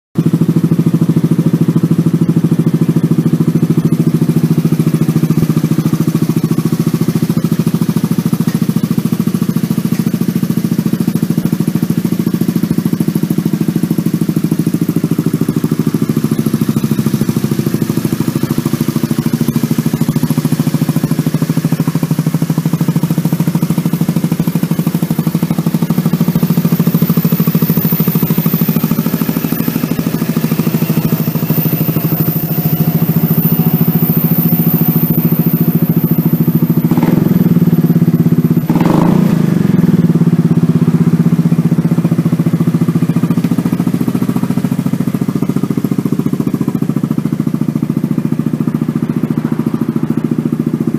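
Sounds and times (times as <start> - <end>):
scooter engine idling: 0.2 - 50.9.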